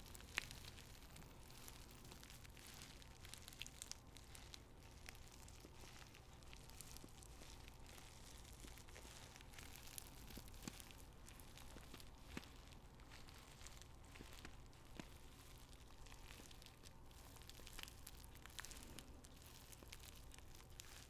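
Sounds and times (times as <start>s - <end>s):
paper tea bags crinkling: 0.0s - 21.0s.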